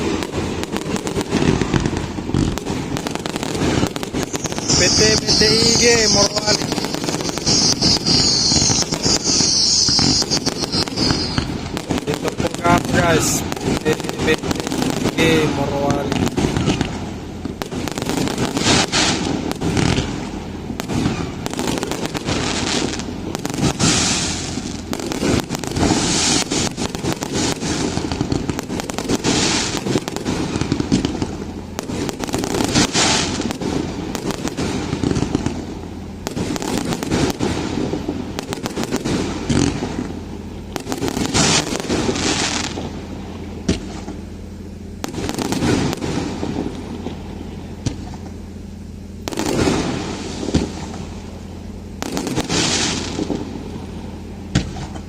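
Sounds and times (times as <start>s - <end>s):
firecrackers crackling: 0.0s - 55.0s
hissing firework bursts: 0.0s - 55.0s.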